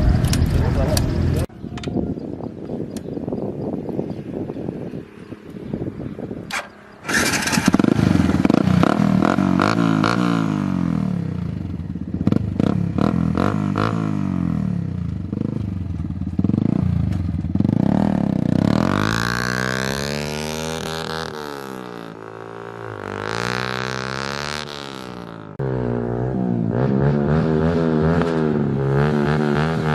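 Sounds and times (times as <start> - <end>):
motorcycle engine revving: 4.0 - 29.9.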